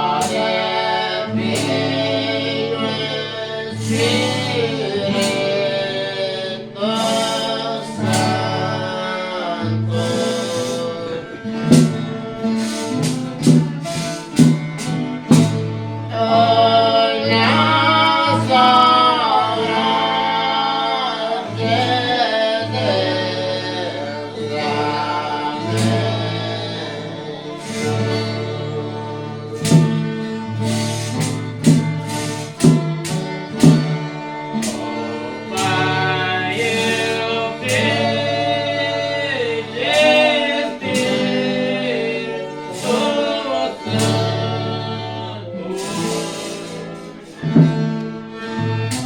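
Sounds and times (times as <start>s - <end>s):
group singing a folk chant: 0.0s - 47.7s
guitar accompaniment: 0.0s - 49.0s.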